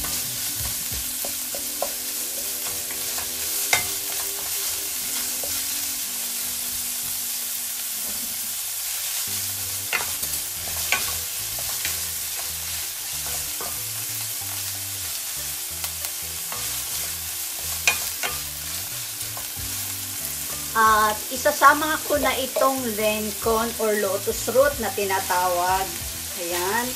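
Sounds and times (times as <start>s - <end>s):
meat sizzling in a frying pan: 0.0s - 26.9s.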